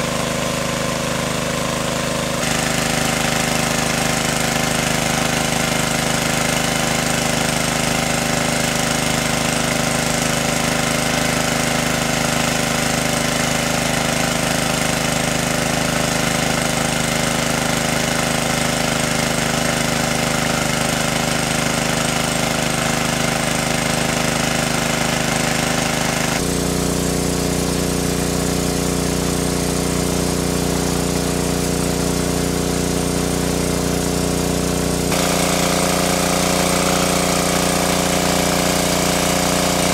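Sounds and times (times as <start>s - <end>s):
small water pump engine running: 0.0s - 39.9s.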